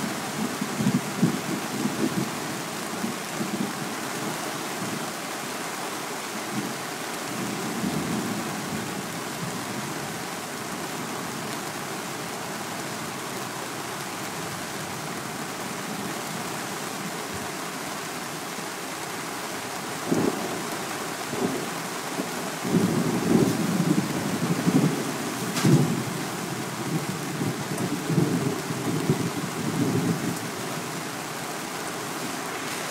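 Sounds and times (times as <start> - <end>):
heavy rain pouring: 0.0 - 32.9.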